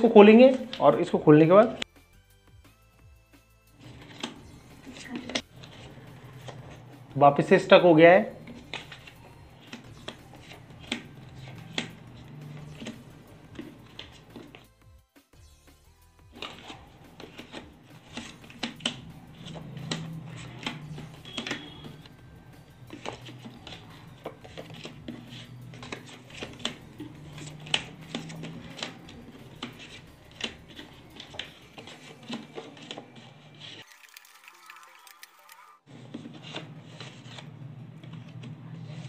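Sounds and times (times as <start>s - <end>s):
cards rustling in hand: 3.7s - 14.8s, 16.3s - 39.0s.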